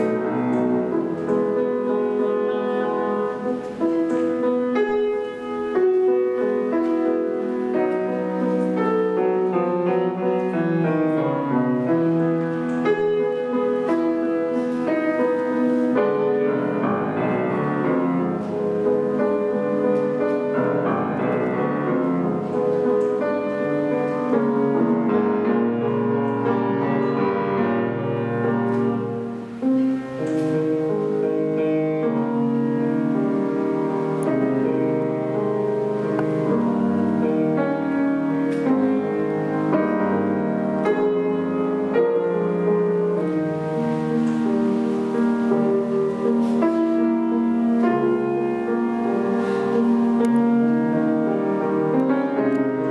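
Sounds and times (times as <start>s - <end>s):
solo classical piano: 0.0s - 52.9s.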